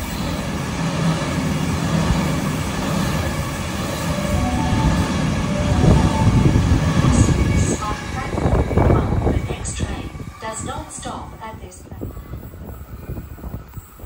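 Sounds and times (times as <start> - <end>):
electric train rumbling past: 0.0 - 14.0
faint train whine: 0.0 - 14.0.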